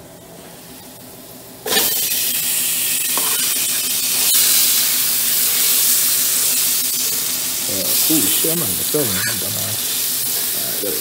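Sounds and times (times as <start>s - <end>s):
food sizzling in hot pan: 1.6s - 11.0s.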